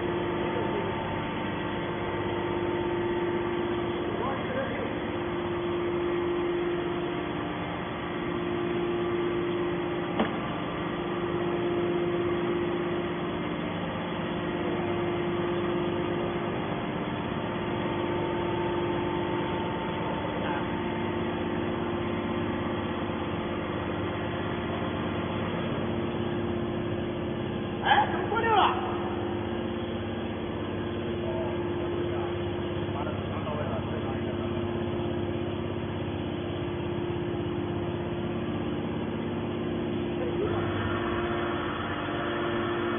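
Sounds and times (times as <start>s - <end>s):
hydraulic power unit humming: 0.0s - 42.9s.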